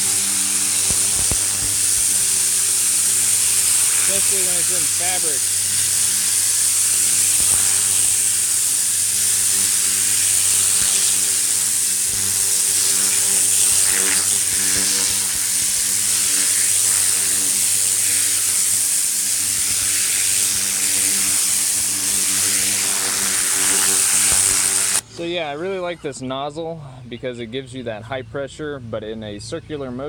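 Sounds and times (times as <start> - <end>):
nozzle spray hissing on fabric: 0.0 - 25.0
pressure washer motor humming: 0.0 - 25.3.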